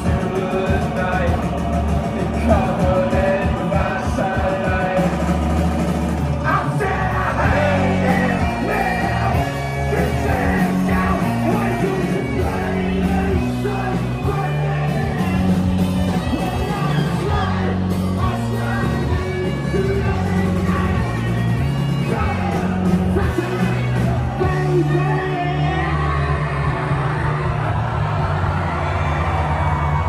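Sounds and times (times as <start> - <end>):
singer shouting and singing: 0.0 - 5.5, 6.3 - 27.8
live rock band playing: 0.0 - 27.9
bass line: 0.0 - 30.0.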